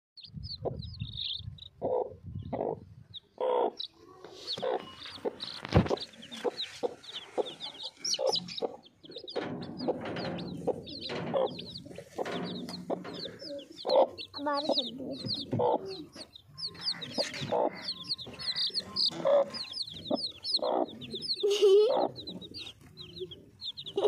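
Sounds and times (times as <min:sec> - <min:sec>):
chicks peeping: 0:00.2 - 0:24.0
hen clucking: 0:00.2 - 0:24.0.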